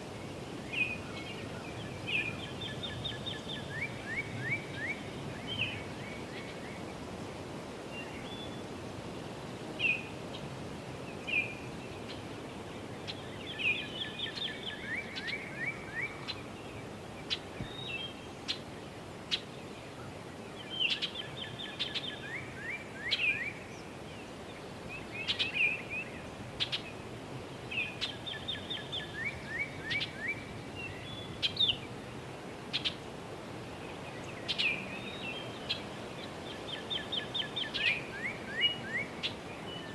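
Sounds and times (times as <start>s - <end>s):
songbirds singing: 0.0s - 9.0s, 9.8s - 39.9s
wind: 0.0s - 39.9s.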